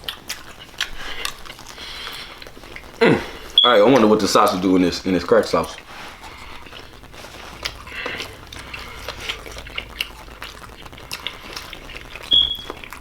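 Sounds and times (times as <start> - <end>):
low steady hum: 0.0 - 13.0
wet squishing of food being eaten: 0.0 - 13.0.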